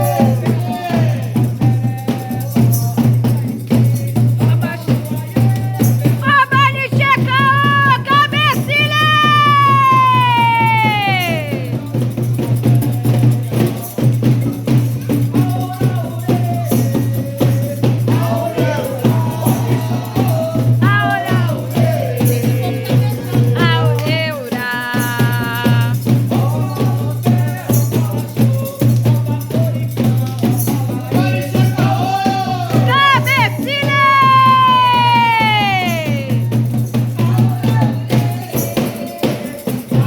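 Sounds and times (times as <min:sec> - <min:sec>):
drums beating: 0:00.0 - 0:40.0
voices singing: 0:00.0 - 0:40.0.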